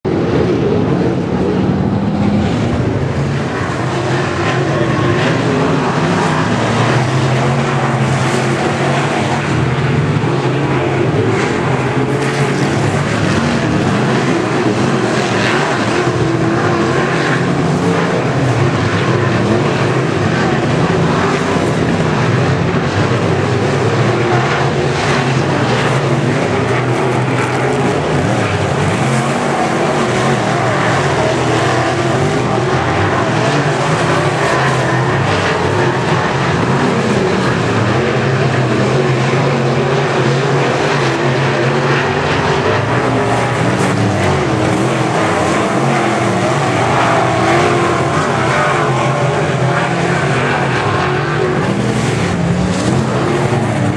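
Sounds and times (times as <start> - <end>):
race car engines roaring: 0.0 - 53.9.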